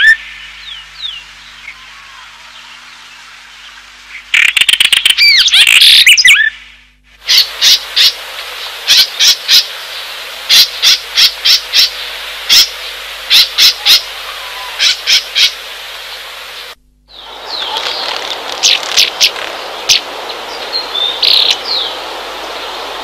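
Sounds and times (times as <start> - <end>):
steady hiss: 0.0 - 4.6, 6.3 - 23.0.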